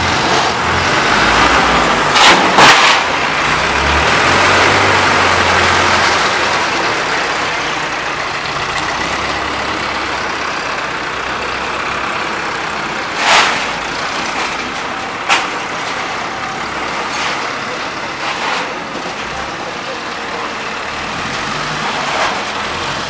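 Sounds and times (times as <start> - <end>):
diesel engine idling: 0.0 - 2.2, 3.0 - 23.0.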